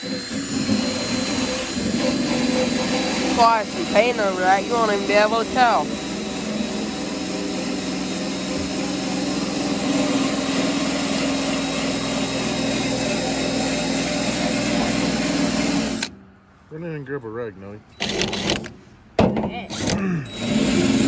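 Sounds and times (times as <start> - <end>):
motor humming: 0.0 - 16.1, 19.7 - 21.0.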